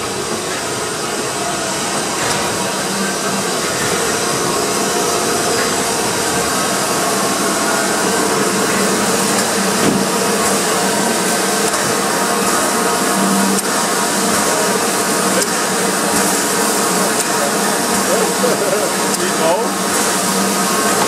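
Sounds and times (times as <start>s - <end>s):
steam locomotive hissing steam: 0.0s - 21.0s.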